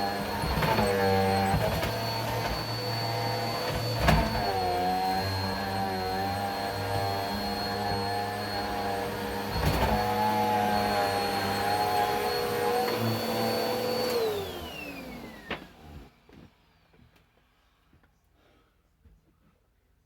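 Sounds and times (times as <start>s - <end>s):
vacuum cleaner running: 0.0s - 16.7s.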